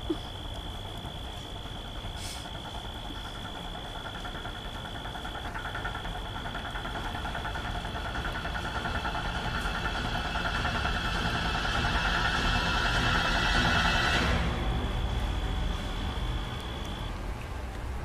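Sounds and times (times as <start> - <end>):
tense low rumbling drone score: 0.0 - 17.7.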